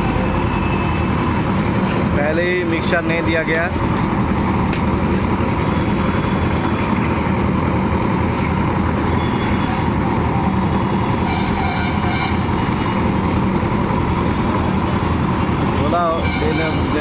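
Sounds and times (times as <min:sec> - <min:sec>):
construction machinery engine humming: 0:00.0 - 0:17.0.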